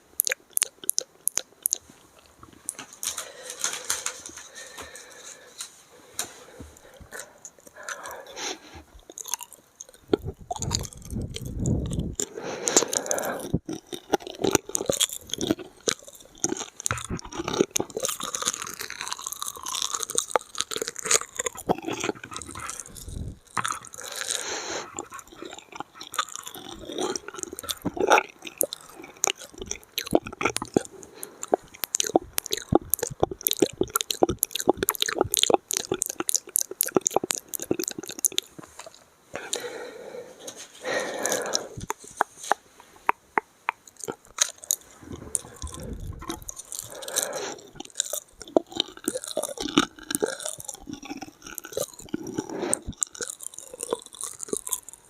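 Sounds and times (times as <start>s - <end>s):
wet mouth clicks: 0.0s - 4.2s, 7.0s - 39.7s, 41.0s - 55.0s
chewing and crunching food: 0.0s - 55.0s.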